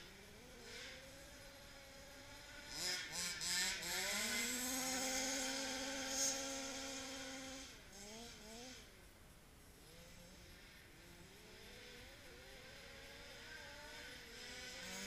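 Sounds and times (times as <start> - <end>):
small two-stroke engine revving: 0.0 - 9.1, 9.7 - 15.0.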